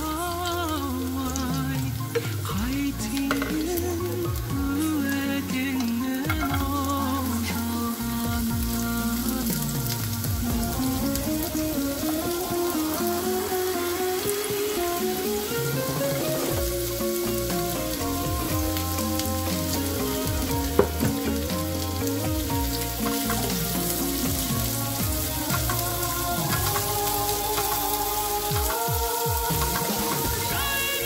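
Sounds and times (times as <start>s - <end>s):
background music: 0.0s - 31.0s
vegetables sizzling in oil: 0.0s - 31.0s.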